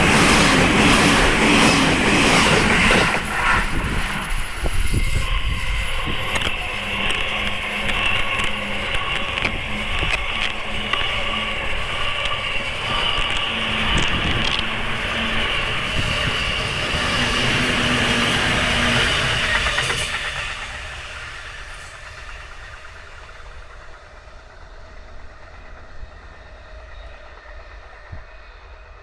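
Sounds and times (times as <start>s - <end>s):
trains passing on rails: 0.0s - 29.0s.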